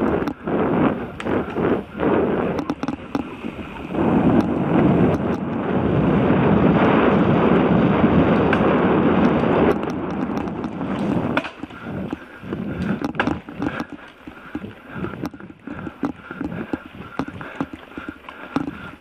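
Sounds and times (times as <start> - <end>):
mountain bike rattling on dirt trail: 0.0 - 19.0
wind buffeting microphone: 0.0 - 19.0.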